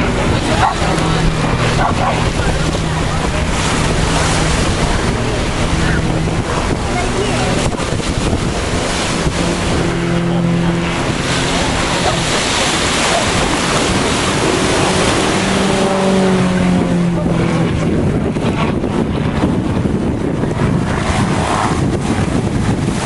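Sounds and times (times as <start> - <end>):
droning tone: 0.0 - 23.0
wind buffeting microphone: 0.0 - 23.0.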